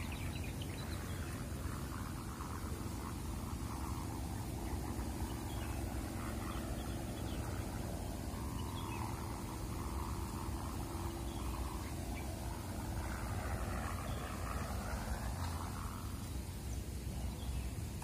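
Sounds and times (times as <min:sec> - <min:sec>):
kite hummer humming: 0:00.0 - 0:18.0
wind rumbling on microphone: 0:00.0 - 0:18.0.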